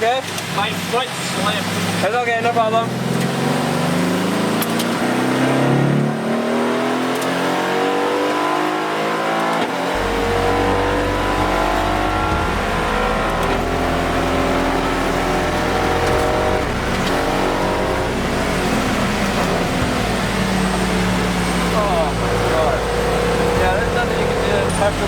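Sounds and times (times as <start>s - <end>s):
race car engine at full throttle: 0.0s - 25.0s.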